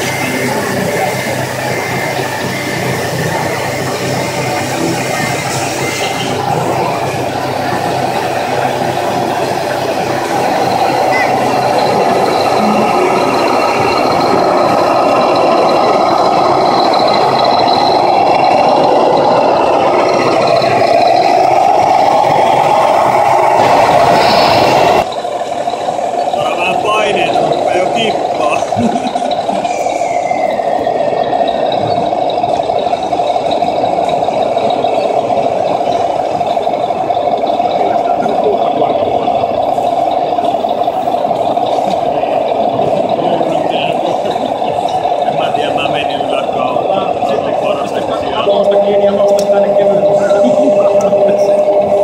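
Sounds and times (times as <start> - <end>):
truck engine idling: 0.0 - 52.0.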